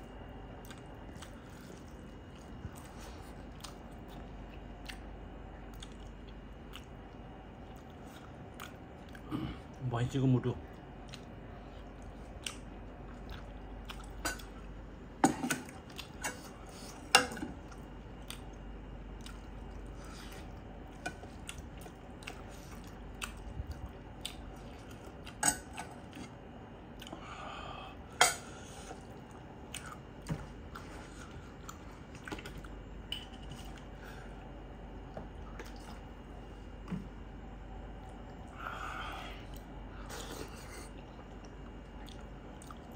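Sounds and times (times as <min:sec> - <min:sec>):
chewing meat: 0:00.0 - 0:27.4, 0:28.4 - 0:38.6, 0:39.3 - 0:42.9.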